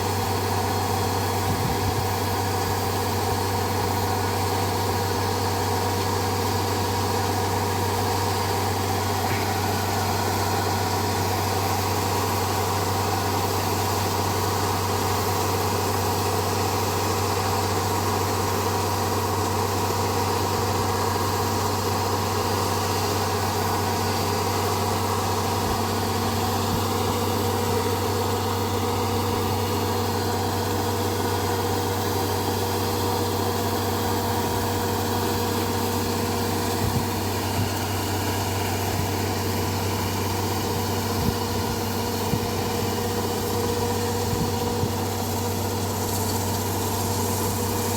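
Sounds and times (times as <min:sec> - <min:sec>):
harvester engine humming: 0:00.0 - 0:47.9.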